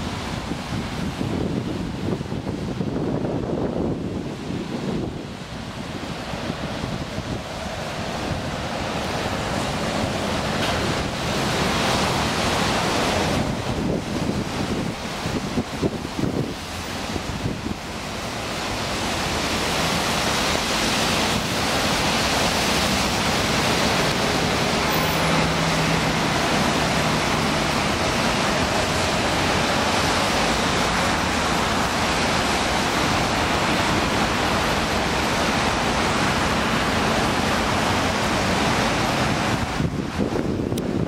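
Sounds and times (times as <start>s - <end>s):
traffic on a wet road: 0.0s - 41.0s
wind on microphone: 0.0s - 41.0s.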